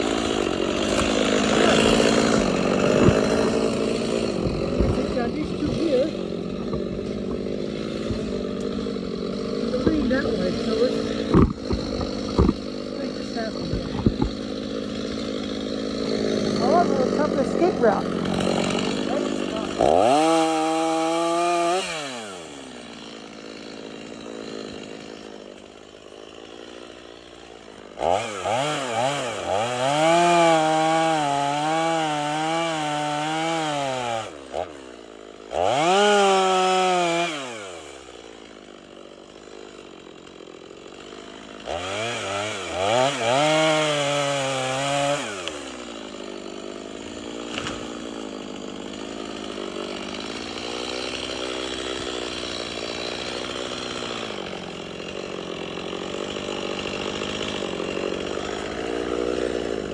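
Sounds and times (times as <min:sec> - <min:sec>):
chainsaw cutting tree trunk: 0:00.0 - 0:59.9.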